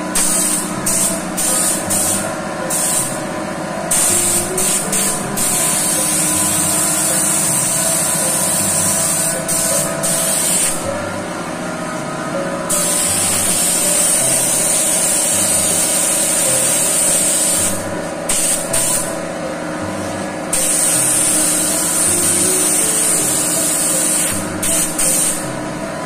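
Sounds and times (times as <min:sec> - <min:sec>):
paint spray gun hissing: 0:00.0 - 0:03.3, 0:03.9 - 0:10.9, 0:12.7 - 0:19.2, 0:20.5 - 0:25.6.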